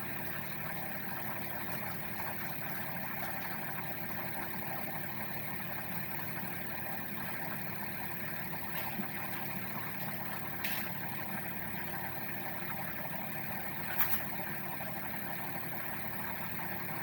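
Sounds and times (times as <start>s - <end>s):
car engine and blower hum: 0.0s - 17.0s.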